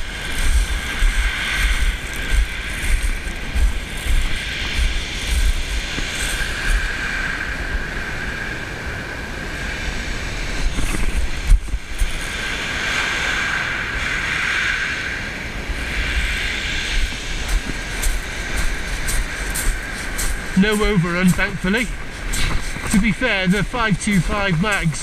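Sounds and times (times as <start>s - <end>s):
waves breaking on shingle beach: 0.0s - 7.6s, 10.1s - 25.0s
wind buffeting microphone: 0.0s - 25.0s.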